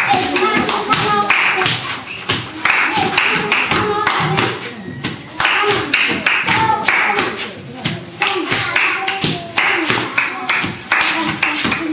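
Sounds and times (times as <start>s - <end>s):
girls chanting: 0.0s - 4.7s, 5.4s - 7.6s, 8.2s - 11.9s
hands clapping and slapping: 0.0s - 11.9s.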